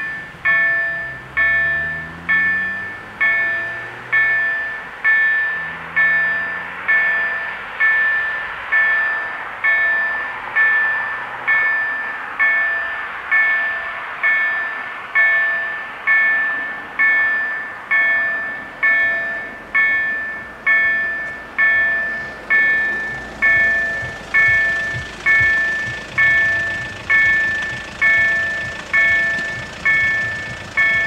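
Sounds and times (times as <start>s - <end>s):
level crossing warning bell: 0.0s - 31.0s.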